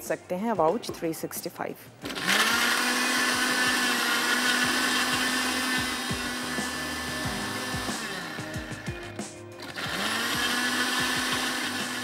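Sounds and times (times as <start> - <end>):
blender motor running: 2.0 - 12.0.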